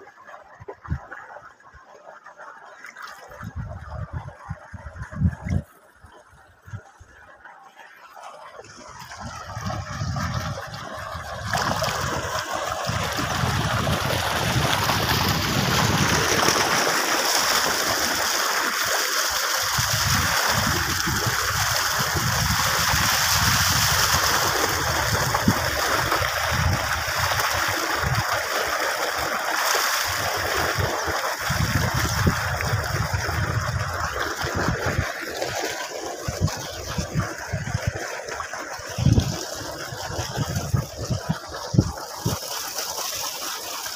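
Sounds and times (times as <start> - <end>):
water gushing from a pipe: 0.0 - 43.9.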